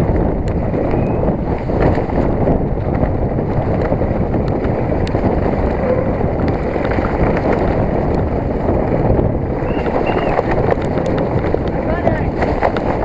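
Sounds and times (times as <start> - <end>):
bike clicks and rattles: 0.0 - 13.0
wind buffeting microphone: 0.0 - 13.0.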